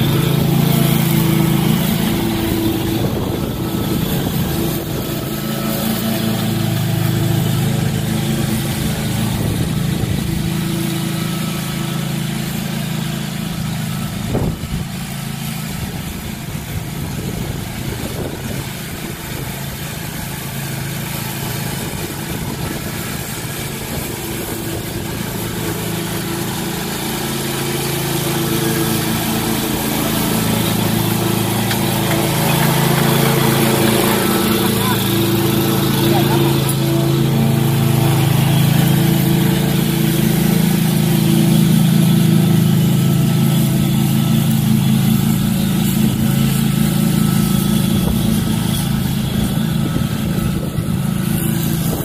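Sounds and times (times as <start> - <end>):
lawn mower engine running: 0.0 - 52.0.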